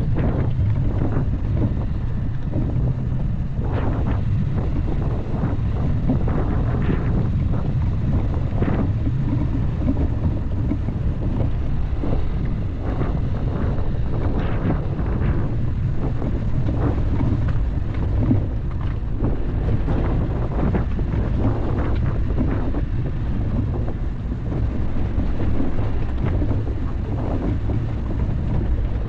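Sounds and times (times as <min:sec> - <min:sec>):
car engine and tyres rumbling: 0:00.0 - 0:29.0
wind buffeting microphone: 0:00.0 - 0:29.0.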